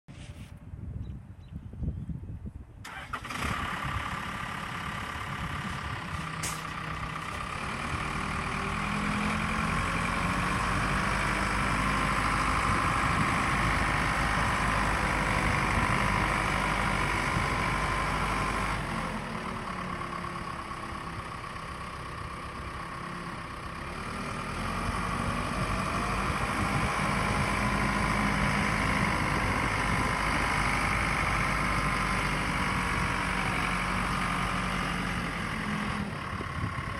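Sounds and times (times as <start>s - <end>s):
backhoe diesel engine running: 2.9s - 36.9s.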